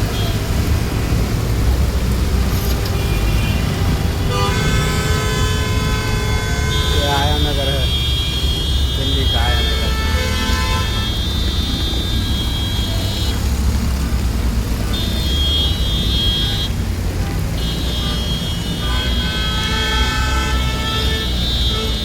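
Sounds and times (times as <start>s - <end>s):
traffic engine rumble: 0.0s - 22.0s.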